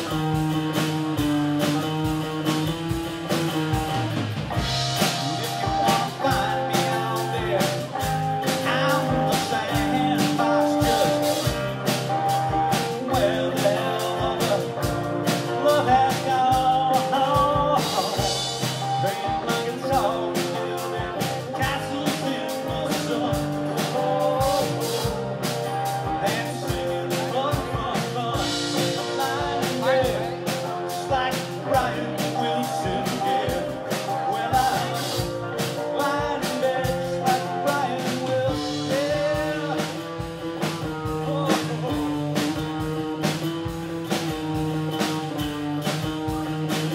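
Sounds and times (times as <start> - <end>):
acoustic guitar: 0.0 - 46.9
drum kit steady beat: 0.0 - 46.9
electric guitar: 0.0 - 46.9.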